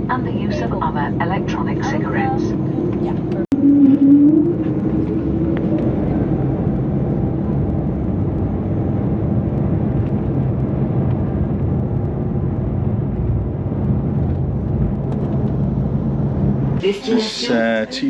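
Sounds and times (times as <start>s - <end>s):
low engine hum: 0.0s - 18.0s
vehicle interior rumble: 0.0s - 18.0s.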